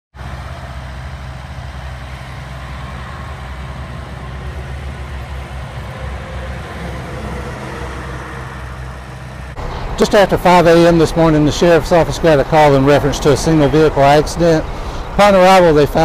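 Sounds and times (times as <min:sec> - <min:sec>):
road vehicles rumbling: 0:00.1 - 0:16.0.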